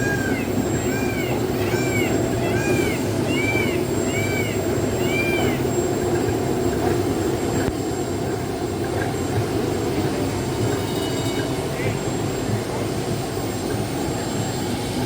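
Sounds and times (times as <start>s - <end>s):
small train rumbling: 0.0s - 15.0s.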